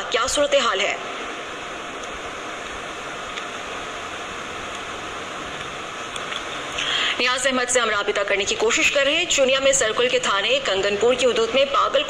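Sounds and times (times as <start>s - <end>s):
phone line static hiss: 0.0s - 12.0s.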